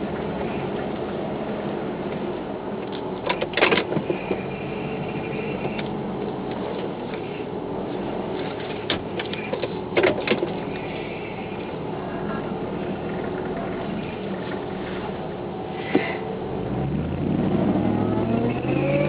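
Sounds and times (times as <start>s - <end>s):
engine idling inside cab: 0.0s - 16.6s.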